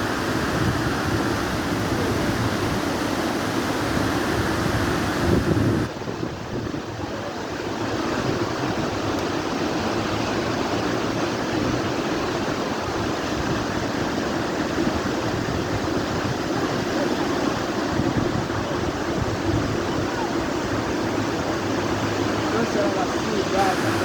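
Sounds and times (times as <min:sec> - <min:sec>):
large waterfall rushing: 0:00.0 - 0:24.0.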